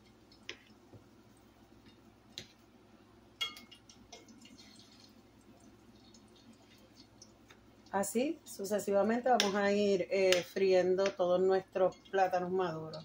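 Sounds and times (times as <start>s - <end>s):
oil frying crackle: 0.0s - 13.0s.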